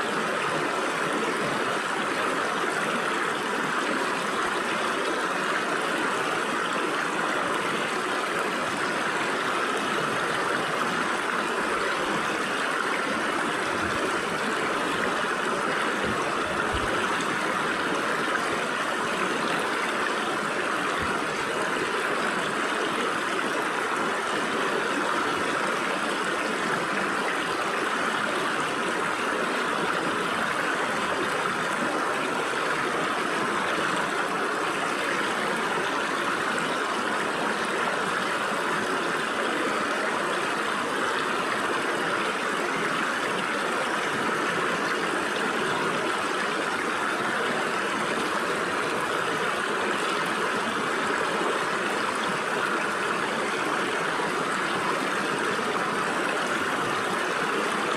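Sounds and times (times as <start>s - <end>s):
stream water rushing over rocks: 0.0s - 57.9s.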